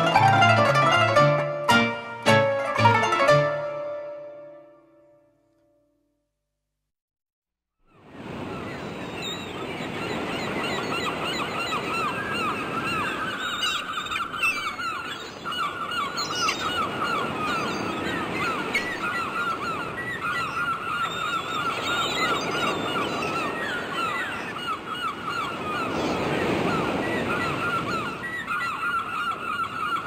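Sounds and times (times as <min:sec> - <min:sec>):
waterbirds calling: 0:00.0 - 0:05.0, 0:07.8 - 0:30.0.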